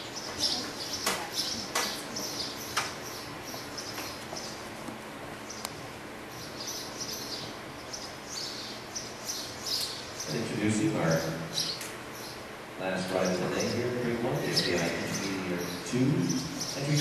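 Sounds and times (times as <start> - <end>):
small birds chirping: 0.0 - 4.8, 5.4 - 17.0.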